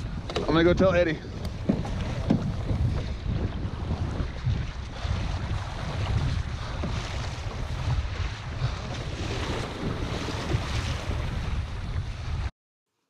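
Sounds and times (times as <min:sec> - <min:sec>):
choppy ocean water rushing: 0:00.0 - 0:12.5
wind buffeting microphone: 0:00.0 - 0:12.5.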